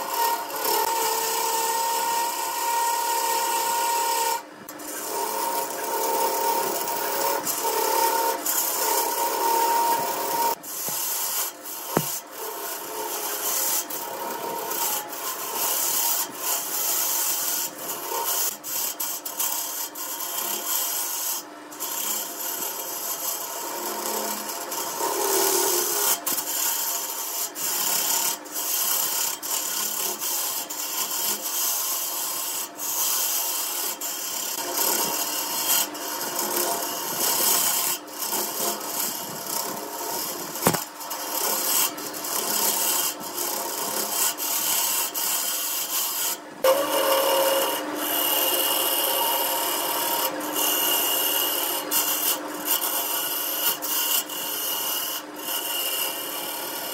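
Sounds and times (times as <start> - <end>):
lathe tool cutting wood: 0.0 - 56.9.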